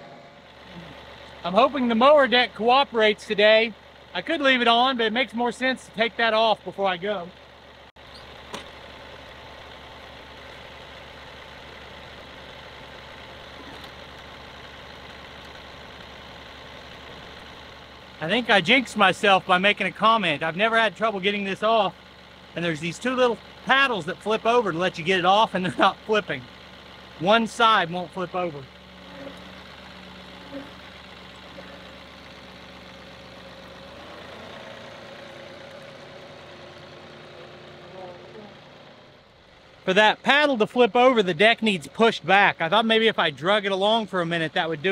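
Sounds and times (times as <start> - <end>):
tractor diesel engine idling: 0.0 - 44.9.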